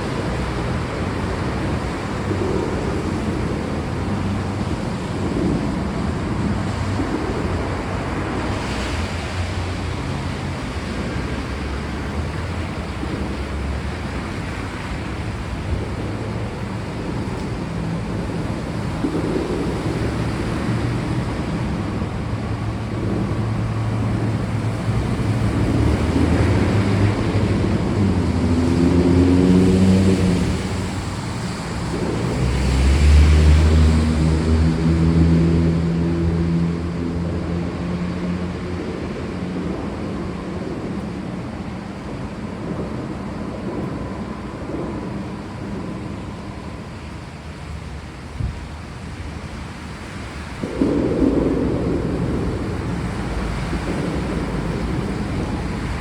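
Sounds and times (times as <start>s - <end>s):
rain hiss: 0.0s - 56.0s
thunder rumbling: 0.0s - 56.0s.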